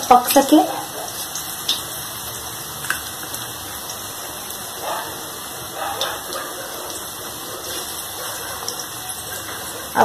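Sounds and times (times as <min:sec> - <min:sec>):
batter deep-frying in oil: 0:00.0 - 0:10.0.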